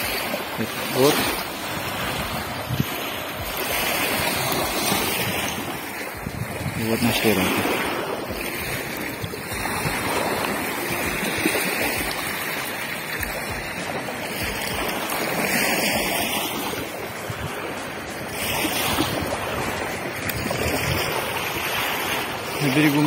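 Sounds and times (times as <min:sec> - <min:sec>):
small waves on a pebble shore: 0:00.0 - 0:23.0
wind rumbling on microphone: 0:00.0 - 0:23.0.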